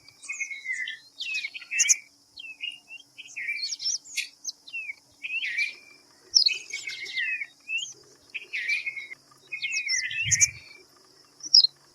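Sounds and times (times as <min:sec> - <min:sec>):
bulbuls chirping: 0:00.0 - 0:11.9.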